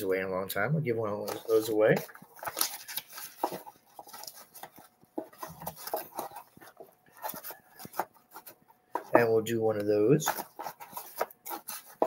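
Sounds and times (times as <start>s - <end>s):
sticker packs rustling and clicking: 1.2s - 12.0s.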